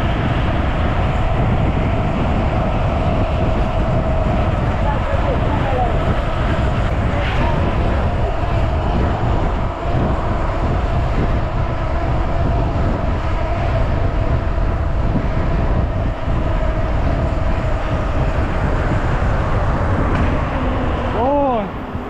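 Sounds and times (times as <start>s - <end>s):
low rumble: 0.0s - 22.0s
wind buffeting microphone: 0.0s - 22.0s.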